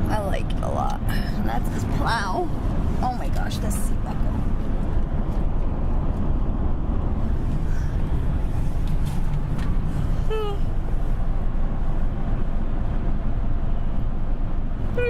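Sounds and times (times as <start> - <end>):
vehicle cabin road rumble: 0.0 - 15.0.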